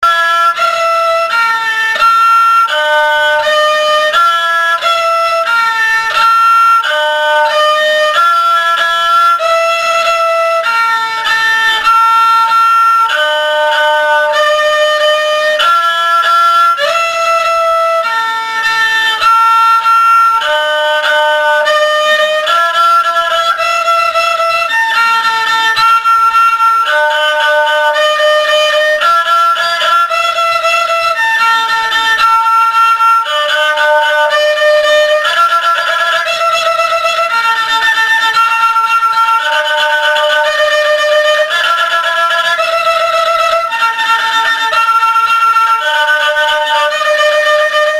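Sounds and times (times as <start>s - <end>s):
violin-like held notes: 0.0s - 47.9s.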